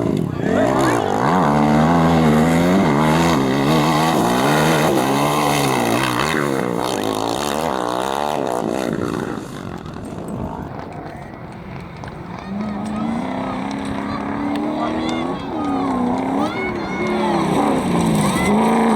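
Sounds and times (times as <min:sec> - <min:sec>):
engine revving hard: 0:00.0 - 0:10.0, 0:11.7 - 0:18.9.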